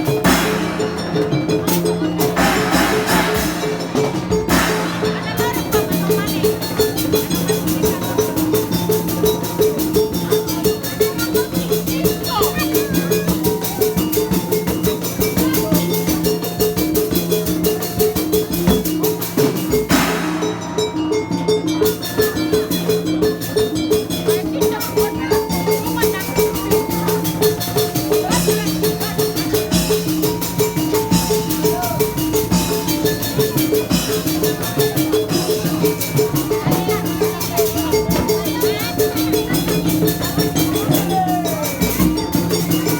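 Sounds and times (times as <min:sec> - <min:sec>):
fast steady drumbeat: 0:00.0 - 0:42.9.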